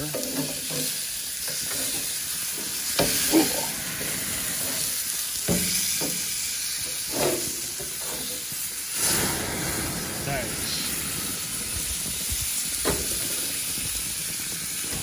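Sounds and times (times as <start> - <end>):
steaks sizzling on a grill: 0.0 - 15.0.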